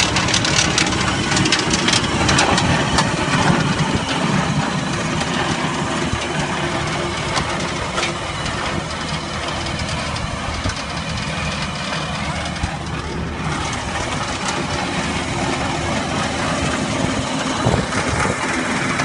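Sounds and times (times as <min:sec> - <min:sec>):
conveyor rattling: 0:00.0 - 0:19.0
tractor engine drone: 0:00.0 - 0:19.0.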